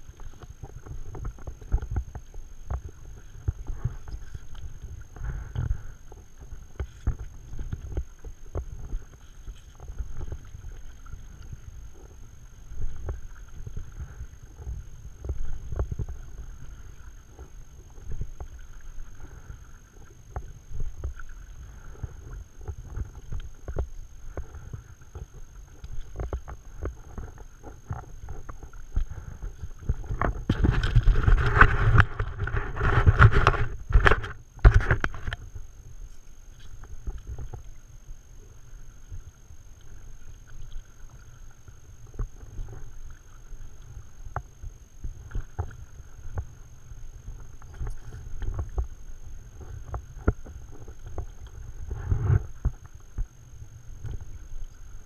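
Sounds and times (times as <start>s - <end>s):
paddle strokes splashing water: 0.0s - 55.0s
wind rumble on microphone: 0.0s - 55.0s.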